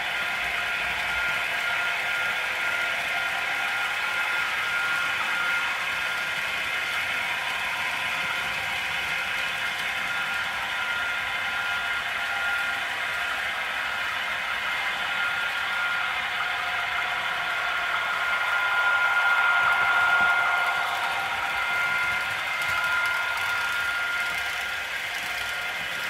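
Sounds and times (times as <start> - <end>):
model train motors whirring: 0.0 - 26.0
thin steady whine: 0.0 - 26.0.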